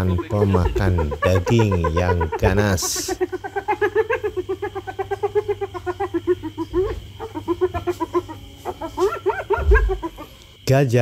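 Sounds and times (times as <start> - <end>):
hyenas yelping: 0.0 - 10.6.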